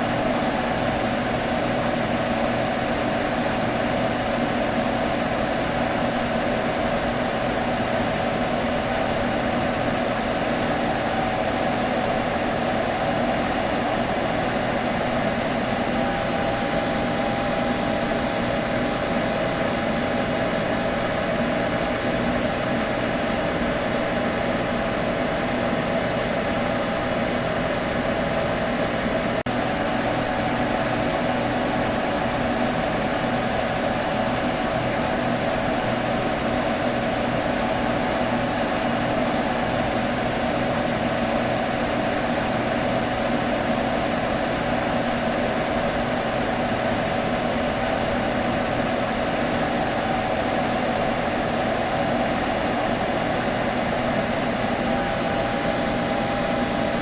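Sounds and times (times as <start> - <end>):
computer fan humming: 0.0 - 57.0.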